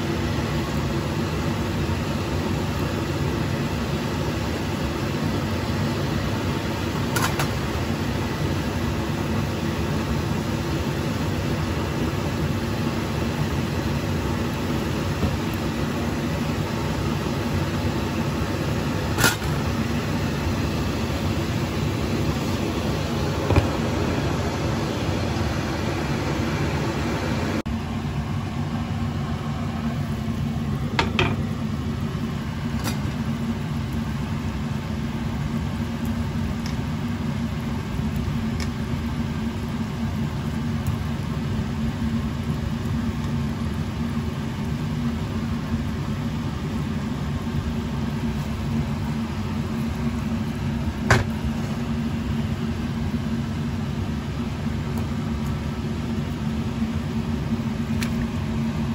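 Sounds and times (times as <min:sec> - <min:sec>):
kitchen fan motor whirring: 0:00.0 - 0:58.9.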